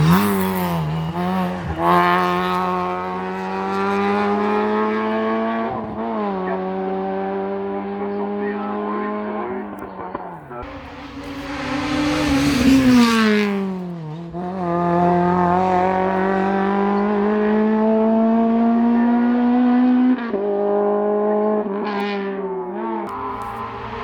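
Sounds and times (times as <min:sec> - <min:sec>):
racing car engine at full throttle: 0:00.0 - 0:24.0.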